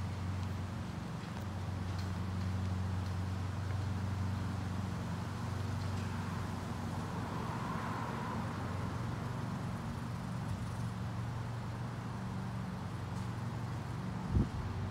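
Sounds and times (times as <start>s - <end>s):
outdoor noise: 0.0s - 14.9s.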